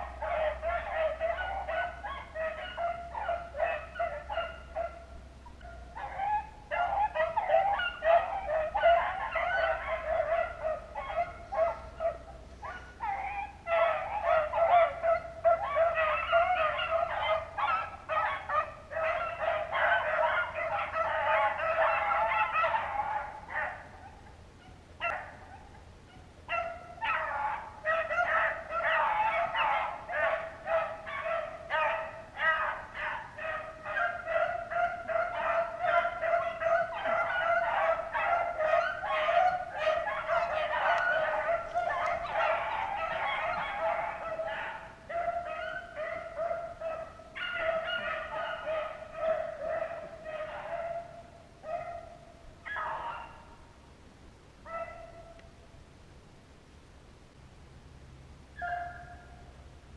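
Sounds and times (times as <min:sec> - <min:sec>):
hunting dogs baying: 0:00.0 - 0:53.6, 0:54.7 - 0:55.4, 0:58.5 - 0:59.4.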